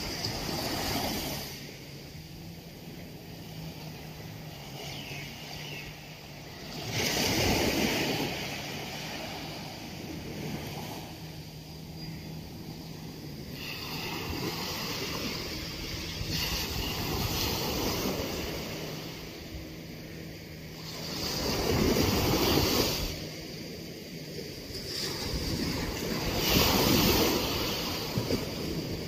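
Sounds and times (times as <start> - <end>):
small waves breaking on beach: 0.0 - 29.0.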